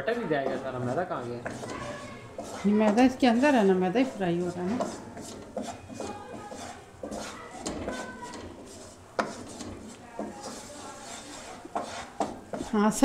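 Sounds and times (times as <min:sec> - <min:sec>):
butter and flour frying: 0:00.0 - 0:13.0
wooden spoon scraping pan: 0:00.0 - 0:13.0
spoon knocking against pan: 0:01.4 - 0:12.7.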